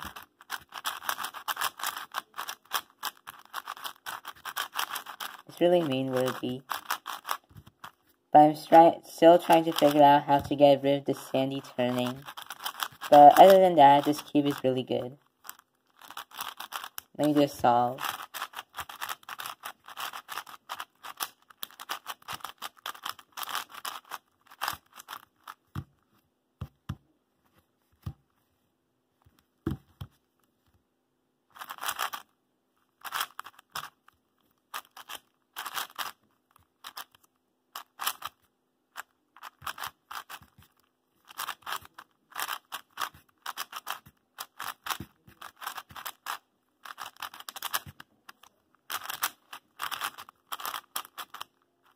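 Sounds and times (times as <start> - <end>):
puzzle cube turning clicks: 0.0 - 8.1, 9.4 - 10.6, 11.2 - 26.0, 31.5 - 32.3, 33.0 - 51.9.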